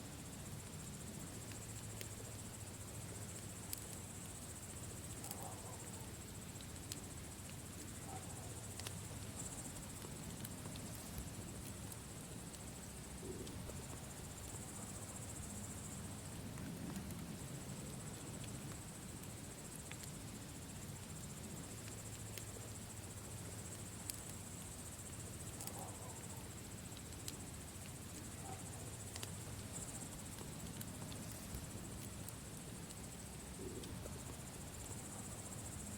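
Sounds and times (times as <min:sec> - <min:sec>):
campfire crackling: 0:00.0 - 0:35.9
crickets chirping: 0:00.0 - 0:35.9.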